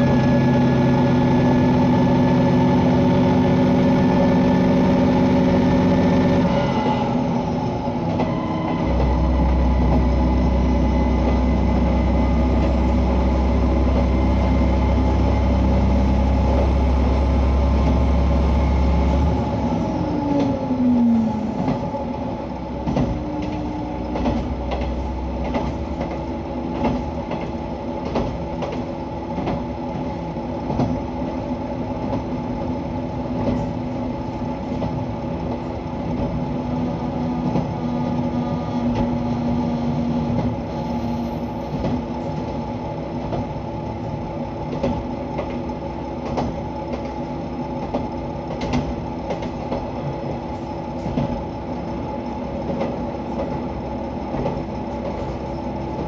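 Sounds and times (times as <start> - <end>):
diesel railcar engine drone: 0.0 - 56.0.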